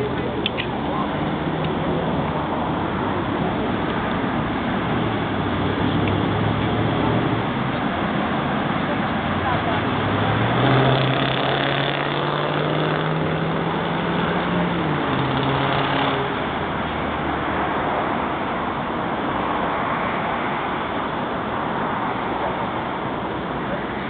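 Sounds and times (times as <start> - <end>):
road traffic noise: 0.0 - 24.0
vehicle engine humming: 0.0 - 24.0.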